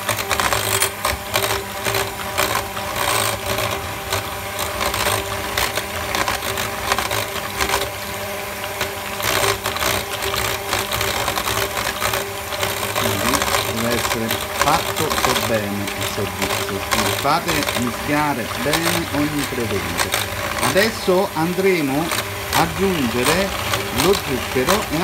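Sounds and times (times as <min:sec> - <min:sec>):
beaters clicking and rattling: 0:00.0 - 0:25.0
electric hand mixer whisking: 0:00.0 - 0:25.0.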